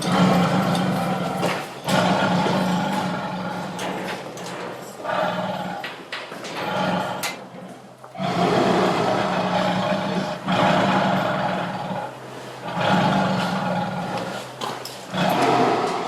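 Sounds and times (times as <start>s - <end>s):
tiger roaring and growling: 0.0s - 16.0s.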